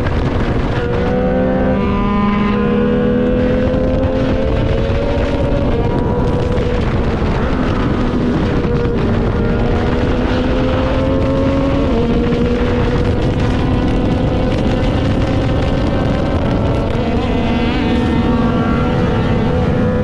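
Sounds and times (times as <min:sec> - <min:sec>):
motorcycle engine running: 0:00.0 - 0:20.0
wind noise on microphone: 0:00.0 - 0:20.0.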